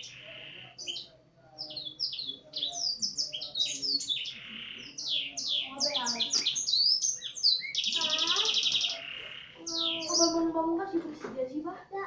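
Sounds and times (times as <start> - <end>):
canary singing: 0.0 - 10.9.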